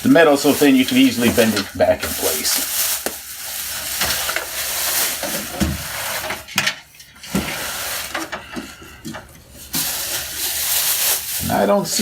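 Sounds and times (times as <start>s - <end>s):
packaging rustling and crinkling: 0.0s - 8.5s, 9.6s - 12.0s.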